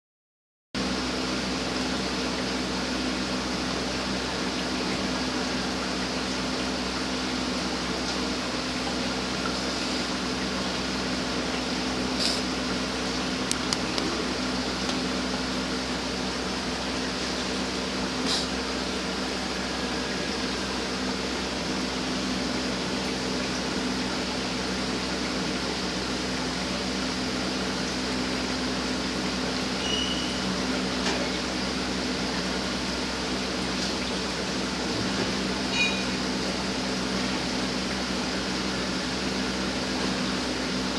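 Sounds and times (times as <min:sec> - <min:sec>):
steady mechanical hum: 0:00.8 - 0:40.9.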